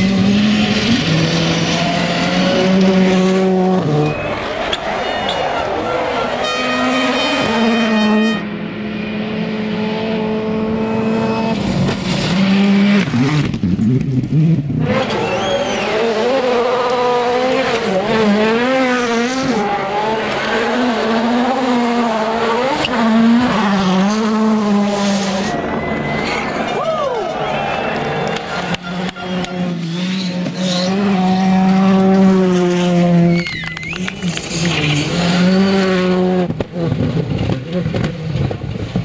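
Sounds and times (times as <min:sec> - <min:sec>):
rally car engines revving: 0:00.0 - 0:39.0.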